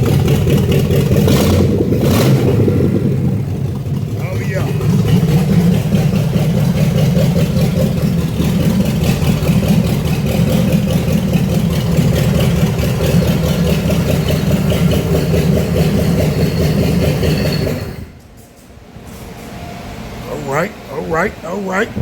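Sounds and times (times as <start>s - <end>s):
loud car engine running: 0.0s - 18.1s, 20.1s - 22.0s.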